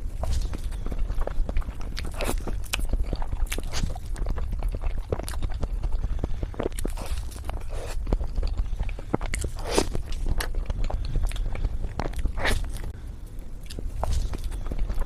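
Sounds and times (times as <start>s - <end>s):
low hum: 0.0s - 15.0s
person chewing: 0.0s - 15.0s.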